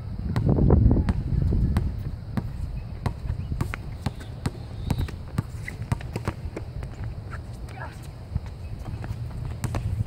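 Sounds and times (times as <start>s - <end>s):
basketball bouncing on hard court: 0.3s - 7.8s, 8.4s - 10.0s.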